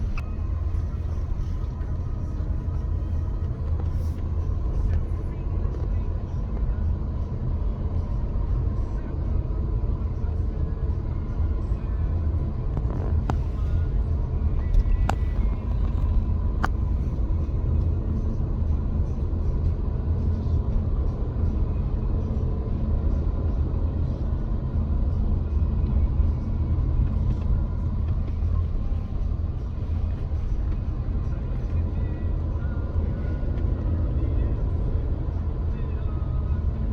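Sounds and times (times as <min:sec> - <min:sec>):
car interior road and engine noise: 0:00.0 - 0:36.9.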